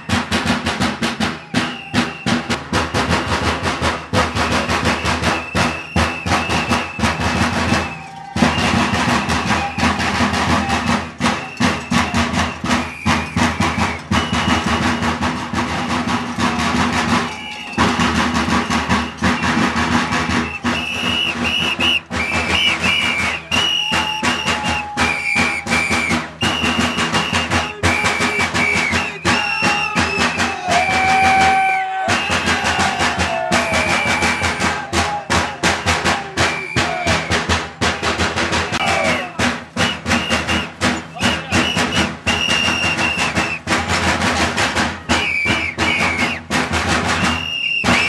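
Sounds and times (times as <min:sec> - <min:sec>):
bass drums beating: 0:00.0 - 0:48.0
shrill whistle blasts: 0:01.2 - 0:02.6, 0:04.2 - 0:16.0, 0:17.0 - 0:37.6, 0:38.6 - 0:43.8, 0:45.0 - 0:46.6, 0:47.2 - 0:48.0.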